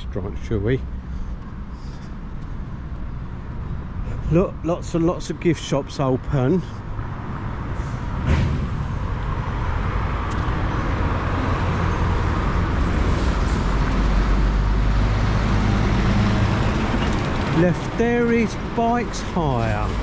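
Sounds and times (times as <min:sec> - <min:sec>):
road traffic passing: 0:00.0 - 0:20.0
truck diesel engine: 0:00.0 - 0:20.0.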